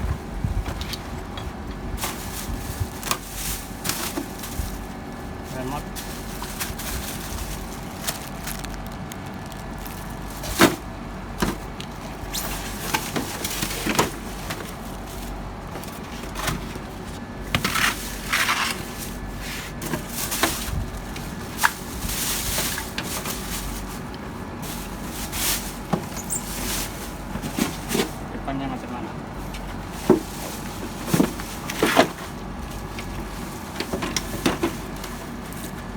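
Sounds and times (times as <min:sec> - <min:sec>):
rustling or scraping: 0:00.0 - 0:28.4, 0:29.3 - 0:35.9
steady low hum: 0:00.0 - 0:35.9.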